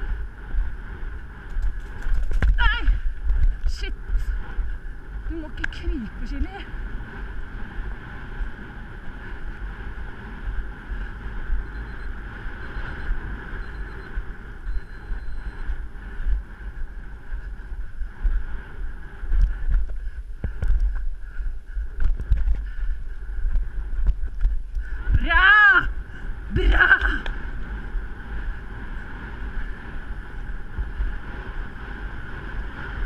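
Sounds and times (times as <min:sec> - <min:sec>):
low rumble: 0:00.0 - 0:33.0
wind rushing over microphone: 0:00.0 - 0:33.0.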